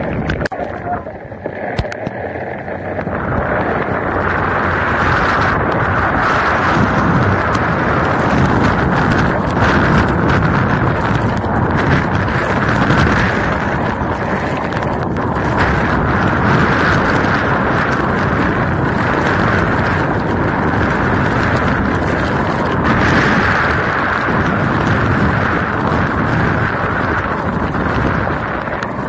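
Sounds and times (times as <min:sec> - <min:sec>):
wind and rain buffeting microphone: 0:00.0 - 0:29.0.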